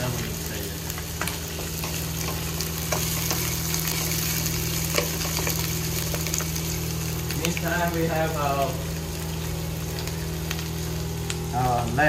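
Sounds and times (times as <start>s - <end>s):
onions sizzling in a pan: 0.0s - 12.0s
steady low hum: 0.0s - 12.0s.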